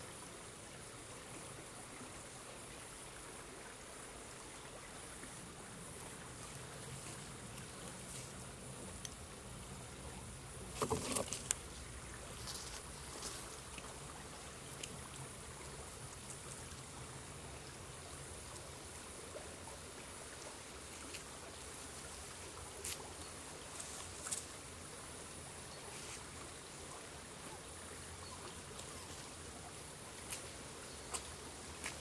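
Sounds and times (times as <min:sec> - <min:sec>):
stream flowing over sand: 0:00.0 - 0:32.0.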